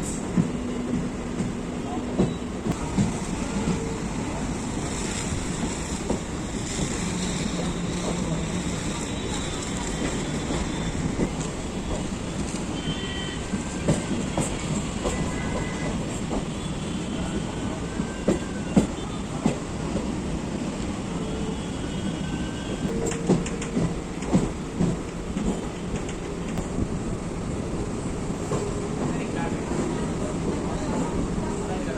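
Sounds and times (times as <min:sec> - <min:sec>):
electric train rumble: 0:00.0 - 0:31.9.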